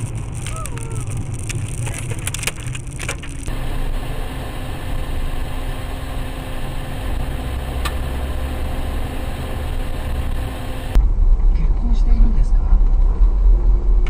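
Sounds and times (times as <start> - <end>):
car engine and road noise: 0.0 - 11.5.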